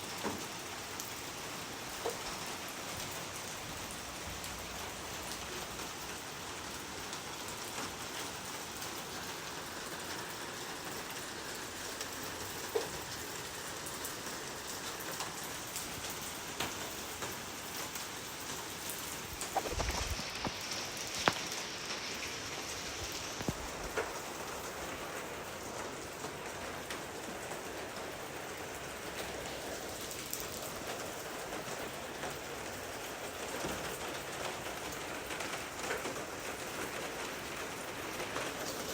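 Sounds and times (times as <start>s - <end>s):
raindrops striking: 0.0s - 38.9s
steady rain falling: 0.0s - 38.9s.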